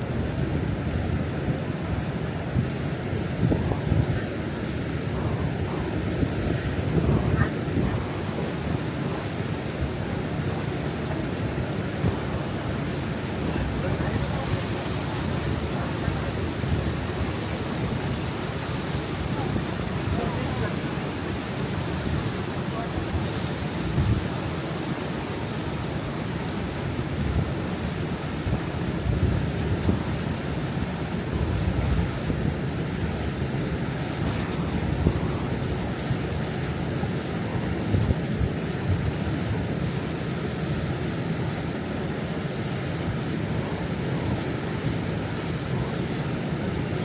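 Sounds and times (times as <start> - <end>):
wind buffeting microphone: 0.0 - 25.0, 25.7 - 39.9
rushing water: 0.0 - 47.0.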